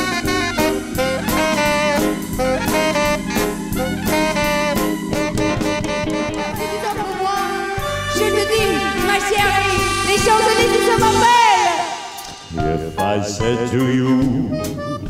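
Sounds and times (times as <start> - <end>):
saxophone and trumpet: 0.0 - 12.8
drum kit: 0.0 - 15.0
keyboards: 0.0 - 15.0.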